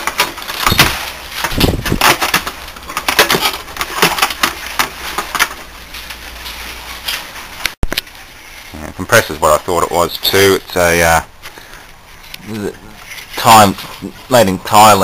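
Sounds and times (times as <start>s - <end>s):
wires and connectors rustling: 0.0s - 15.0s.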